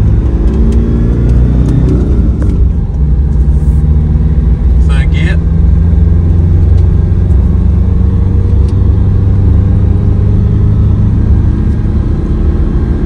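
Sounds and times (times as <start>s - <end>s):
engine droning at full throttle: 0.0s - 13.0s.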